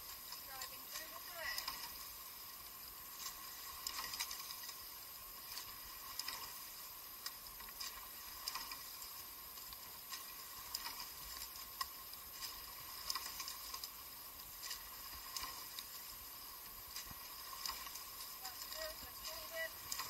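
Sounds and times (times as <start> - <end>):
water splashing and dripping: 0.0 - 20.0.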